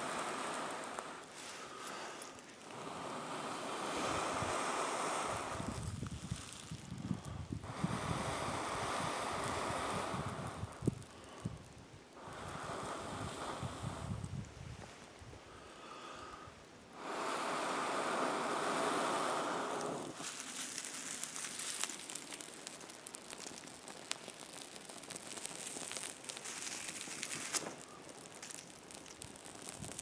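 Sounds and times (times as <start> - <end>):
breath blowing into tinder: 0.0 - 30.0
fire crackling and popping: 0.0 - 30.0.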